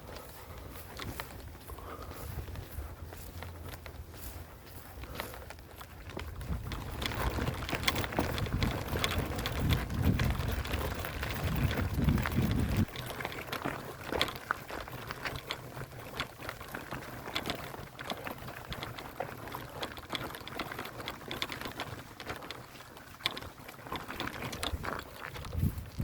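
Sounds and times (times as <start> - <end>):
footsteps: 0.0 - 26.0.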